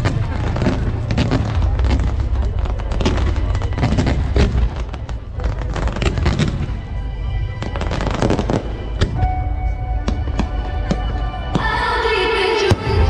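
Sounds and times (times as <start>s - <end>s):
fireworks crackling bangs: 0.0s - 11.9s, 12.6s - 13.0s
music: 0.0s - 13.0s.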